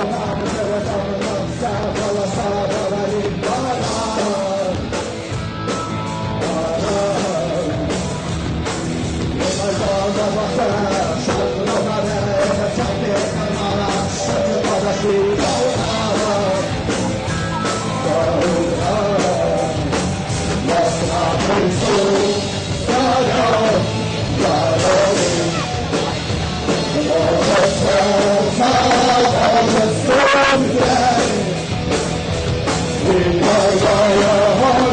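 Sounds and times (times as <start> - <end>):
person singing: 0.0 - 8.2, 9.3 - 32.0, 32.9 - 34.9
rock band playing live: 0.0 - 34.9.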